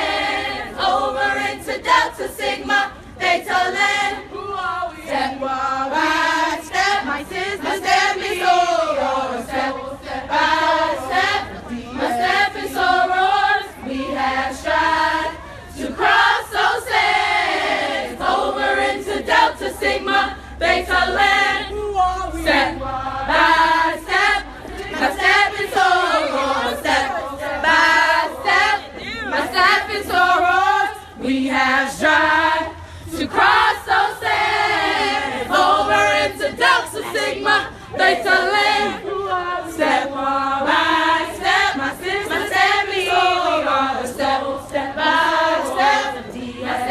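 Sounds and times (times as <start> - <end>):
women singing in unison: 0.0 - 46.9.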